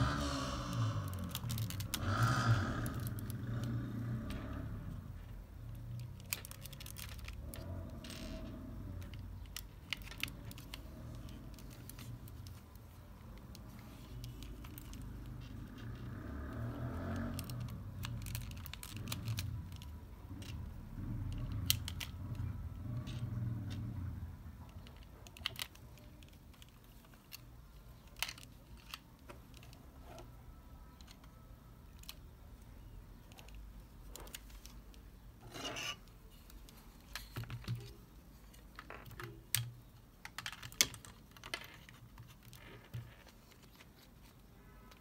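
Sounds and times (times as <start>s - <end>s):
low rumble of handling: 0.0s - 45.0s
plastic parts clicking together: 0.2s - 2.2s, 2.8s - 45.0s.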